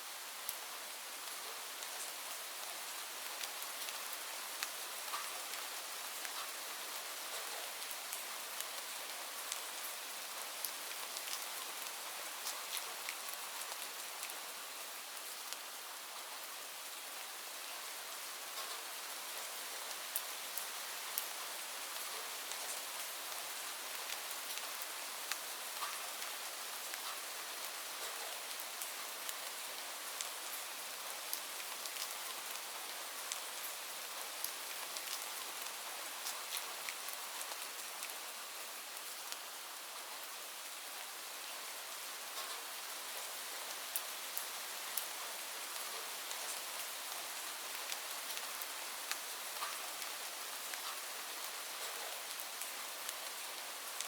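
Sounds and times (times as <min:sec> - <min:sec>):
steady rain hiss: 0:00.0 - 0:54.0
raindrops ticking on surfaces: 0:00.1 - 0:54.0.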